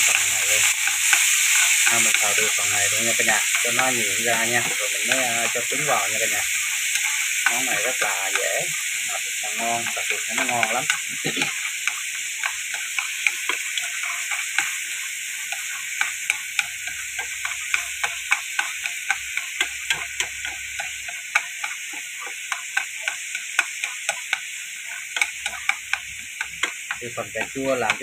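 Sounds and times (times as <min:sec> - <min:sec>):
chopsticks tapping and scraping pan: 0:00.0 - 0:28.0
tomatoes sizzling in oil: 0:00.0 - 0:28.0.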